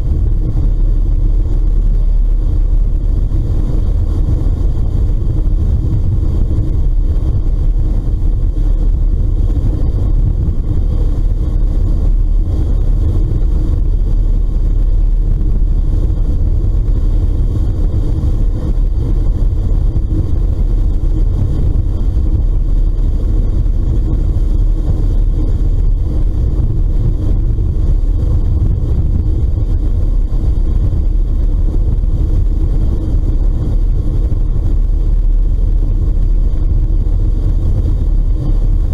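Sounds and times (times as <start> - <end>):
ferry engine rumble: 0.0 - 38.9
wind on microphone: 0.0 - 38.9.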